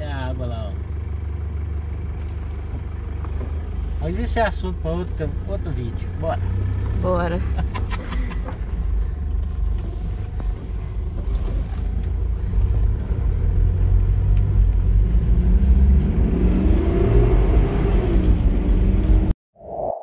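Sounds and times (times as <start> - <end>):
car engine and tyres rumbling: 0.0 - 19.3.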